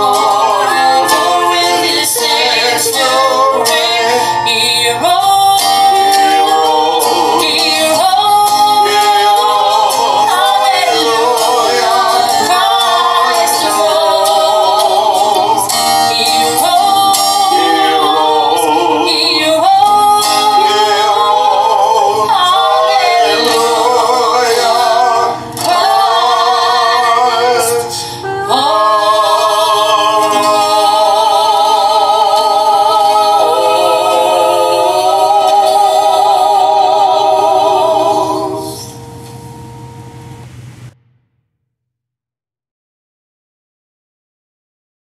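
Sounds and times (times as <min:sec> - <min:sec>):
high solo voice singing with vibrato: 0:00.0 - 0:39.1
musical accompaniment: 0:00.0 - 0:41.2.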